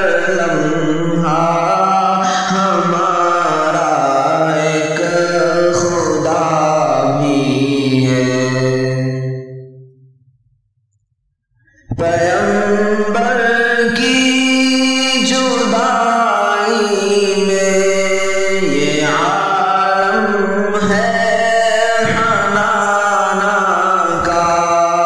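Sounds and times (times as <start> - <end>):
a cappella vocal chanting: 0.0 - 9.6, 11.9 - 25.0.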